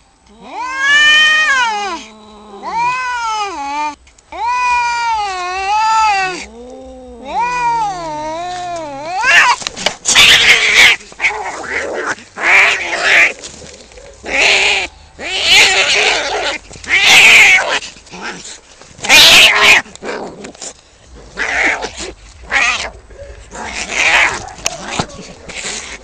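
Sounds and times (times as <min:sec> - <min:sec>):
cats yowling: 0:00.3 - 0:20.2, 0:21.2 - 0:26.0
cats hissing and screeching: 0:00.3 - 0:26.0.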